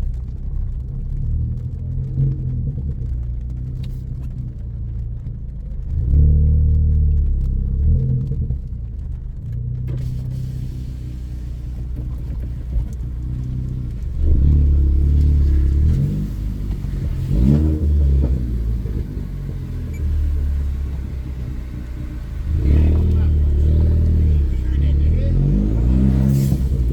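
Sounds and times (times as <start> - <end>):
car engine revving under load: 0.0 - 26.9.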